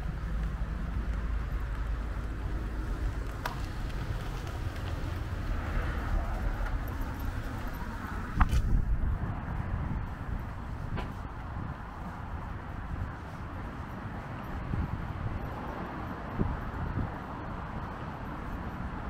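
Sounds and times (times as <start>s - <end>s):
car passing: 0.0s - 19.0s
street traffic rumble: 0.0s - 19.0s.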